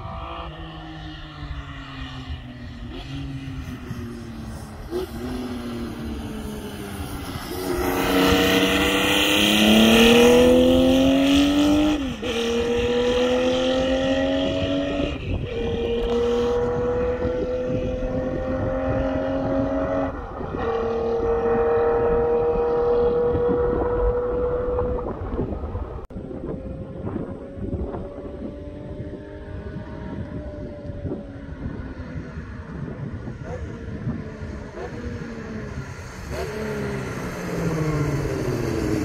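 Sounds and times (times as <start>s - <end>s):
motorcycle engine accelerating past: 0.0s - 39.0s.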